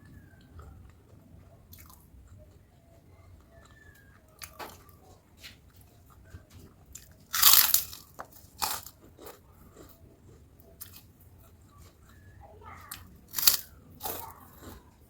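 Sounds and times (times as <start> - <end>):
crunchy bites and chewing: 0.1 - 15.0.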